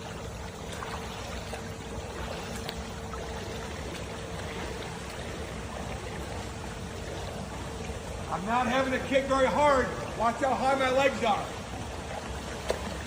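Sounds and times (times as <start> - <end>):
pool water splashing: 0.0 - 13.0
steady hum: 0.0 - 13.0.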